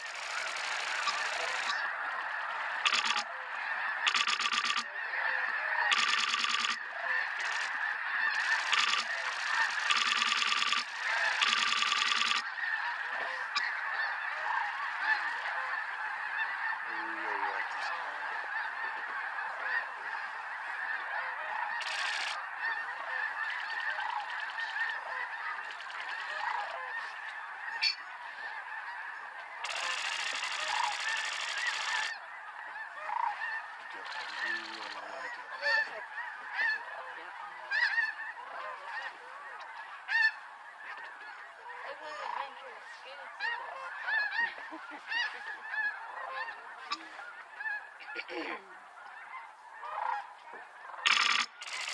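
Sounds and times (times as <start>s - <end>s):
flock of geese honking: 0.0s - 51.9s
single louder goose calls: 0.0s - 51.9s.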